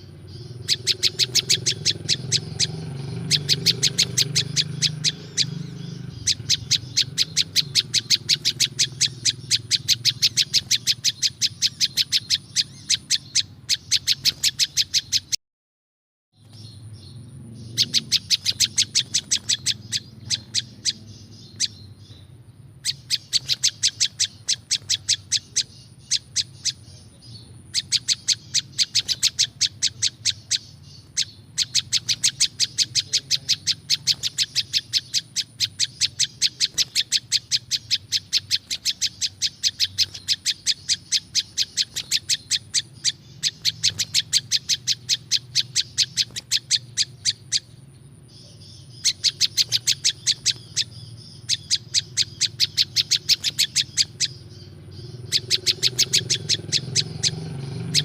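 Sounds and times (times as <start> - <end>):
bird chip notes: 0.0 - 15.4, 16.4 - 58.0.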